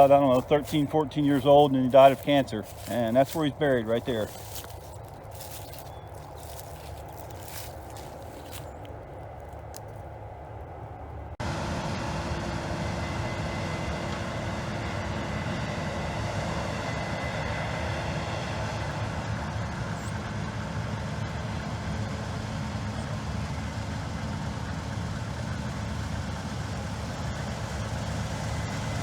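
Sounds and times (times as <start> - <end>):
harvest machinery engine drone: 0.0 - 29.0.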